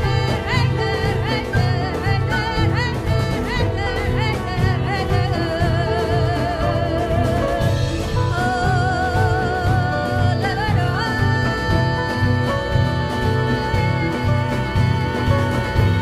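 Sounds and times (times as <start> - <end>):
steady drum beat: 0.0 - 16.0
woman singing with vibrato: 0.0 - 16.0.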